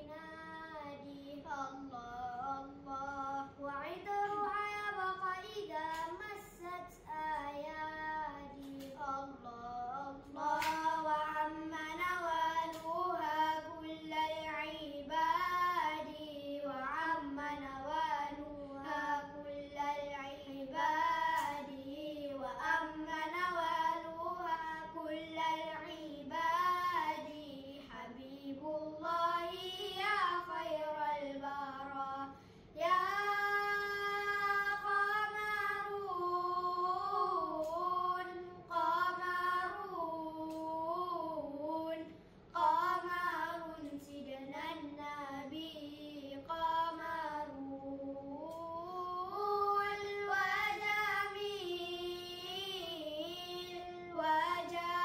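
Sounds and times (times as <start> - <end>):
boys singing unaccompanied: 0.0 - 55.0.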